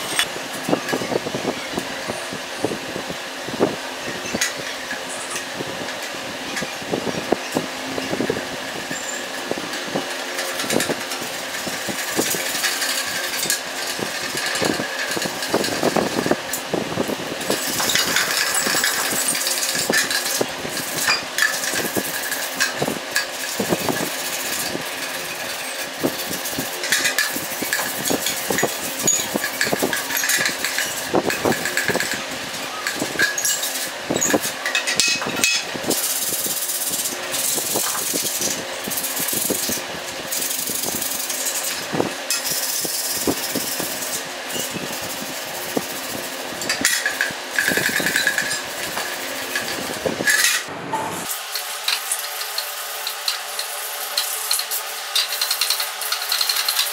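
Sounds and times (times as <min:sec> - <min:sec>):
steady hum: 0:00.0 - 0:56.9
metal scraper rasping paint: 0:08.9 - 0:16.6, 0:17.4 - 0:56.9.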